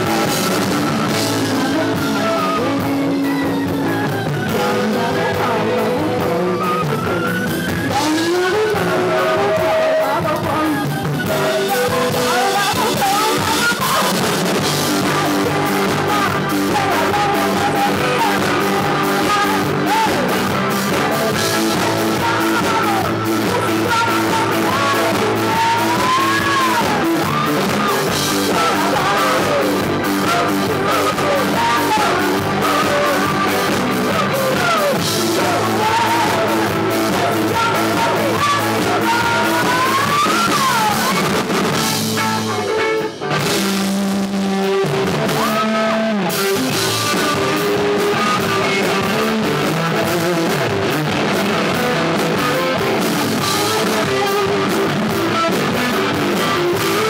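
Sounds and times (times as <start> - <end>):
woman singing: 0.0 - 43.0, 45.1 - 57.0
live rock band playing: 0.0 - 57.0.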